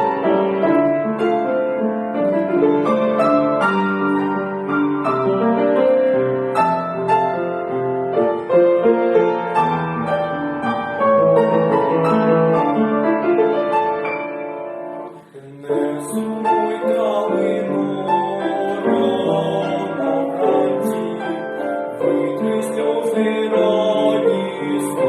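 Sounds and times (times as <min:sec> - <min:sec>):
piano playing: 0:00.0 - 0:25.0.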